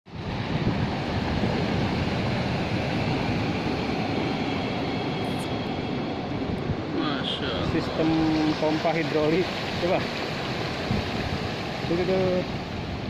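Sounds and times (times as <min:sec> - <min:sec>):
sea water surging on shore: 0:00.1 - 0:13.0.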